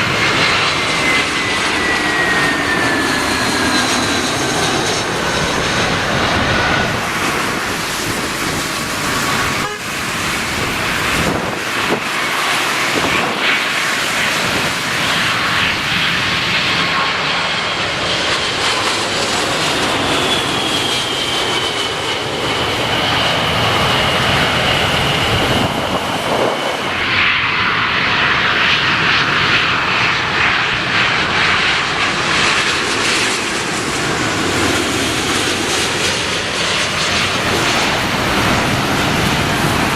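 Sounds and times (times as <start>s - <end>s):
jet airliner engines: 0.0s - 39.9s.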